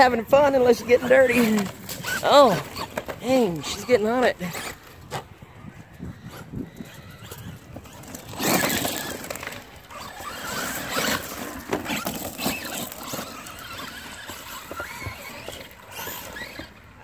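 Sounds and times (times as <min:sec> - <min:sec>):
rc truck electric motors whining: 0:00.0 - 0:17.0
wheels spinning in mud: 0:00.0 - 0:17.0.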